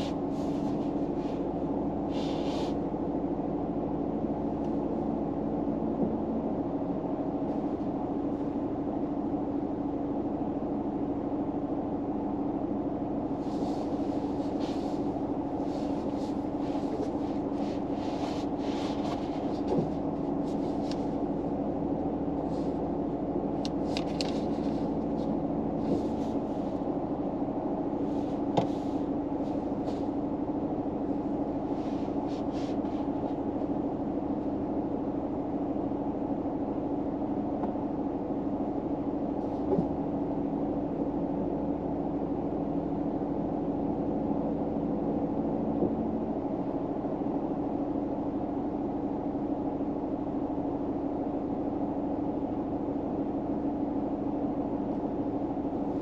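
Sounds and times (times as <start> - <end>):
low hum inside car: 0.0 - 56.0.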